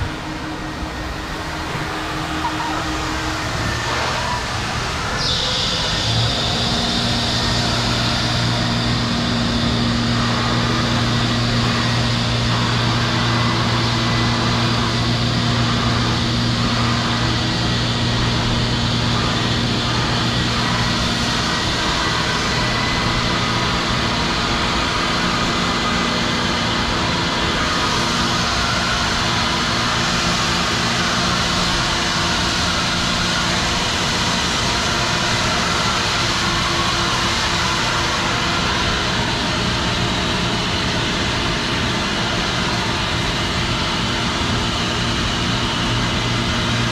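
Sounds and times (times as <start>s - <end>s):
car wash machinery running: 0.0s - 46.9s.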